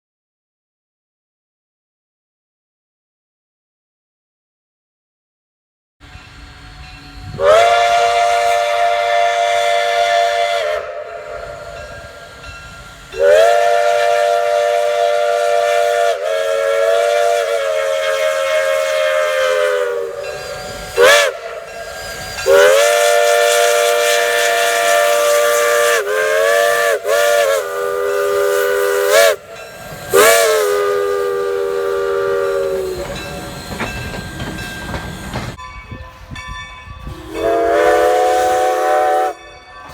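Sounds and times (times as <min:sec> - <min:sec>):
steam hissing: 0:06.0 - 0:35.6, 0:36.9 - 0:39.9
steam locomotive whistle blasts: 0:06.0 - 0:39.9.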